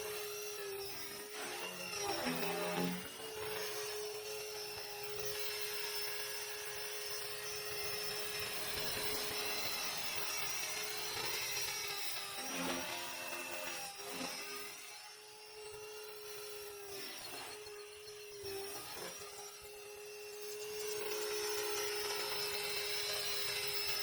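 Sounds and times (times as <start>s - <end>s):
rc helicopter motor whine: 0.0s - 24.0s.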